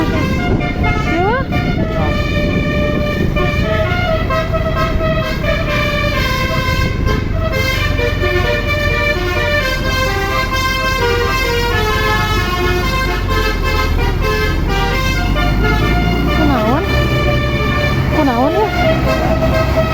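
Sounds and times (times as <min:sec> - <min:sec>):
bus engine running: 0:00.0 - 0:19.9
bus musical horn melody: 0:00.0 - 0:19.9.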